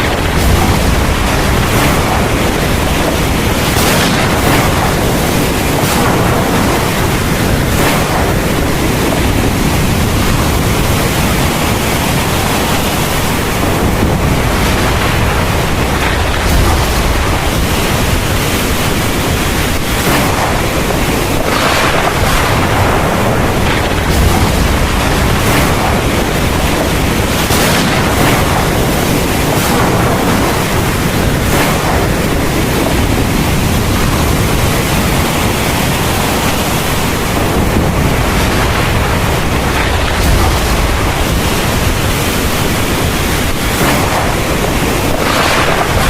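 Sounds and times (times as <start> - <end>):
heavy rain pouring: 0.0 - 46.0
low rumble: 0.0 - 46.0.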